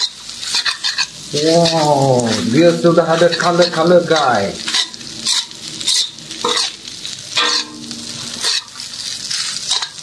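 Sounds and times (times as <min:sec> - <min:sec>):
light sizzle: 0:00.0 - 0:10.0
metal spatula scraping wok: 0:00.0 - 0:10.0.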